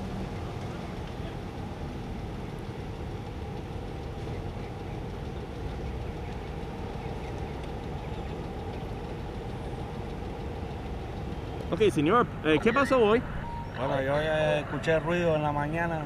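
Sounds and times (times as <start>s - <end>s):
heavy vehicle engine idling: 0.0s - 16.0s.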